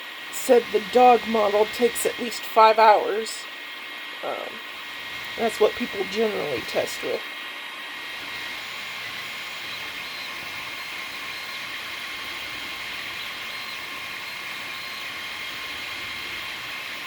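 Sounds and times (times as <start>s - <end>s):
printer fan hiss: 0.0s - 17.0s
stepper motors whining: 0.0s - 17.0s.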